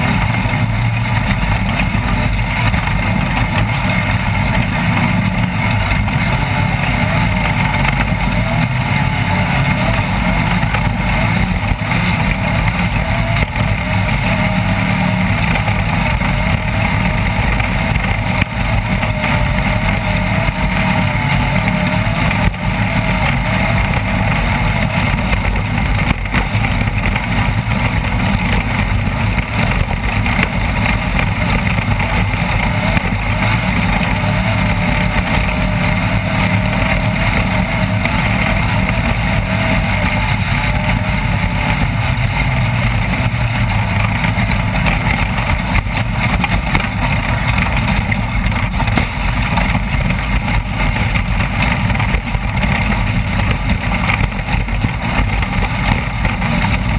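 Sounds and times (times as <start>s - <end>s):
off-road vehicle engine running: 0.0s - 56.9s
rattling and terrain noise: 0.0s - 56.9s.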